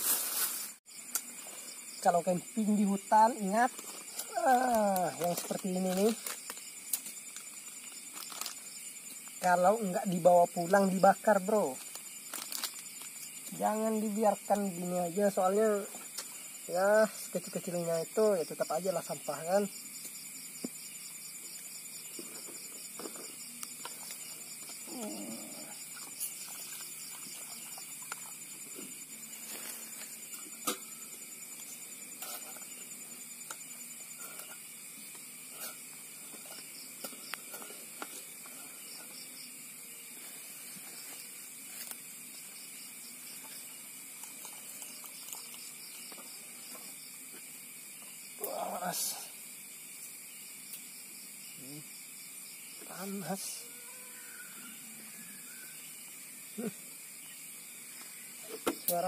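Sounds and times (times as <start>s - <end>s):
night insects chirping: 0.0s - 59.0s
pulsing insect trill: 0.0s - 59.0s.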